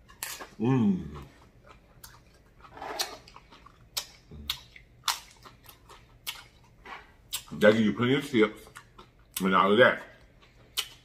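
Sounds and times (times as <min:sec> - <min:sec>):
chewing crunchy chips: 0:00.0 - 0:11.0.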